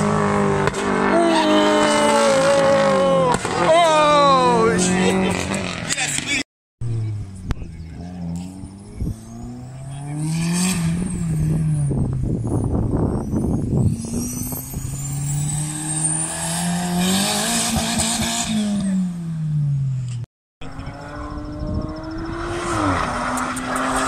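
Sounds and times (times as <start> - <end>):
car engine accelerating and slowing: 0.0 - 24.0.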